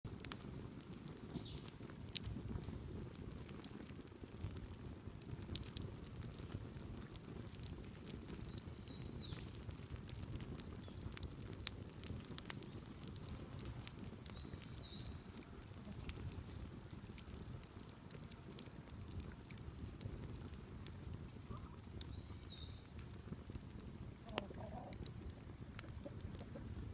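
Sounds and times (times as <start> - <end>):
fire popping and snapping: 0.1 - 26.9
low rumble of burning: 0.1 - 26.9
wood fire crackling: 0.1 - 26.9.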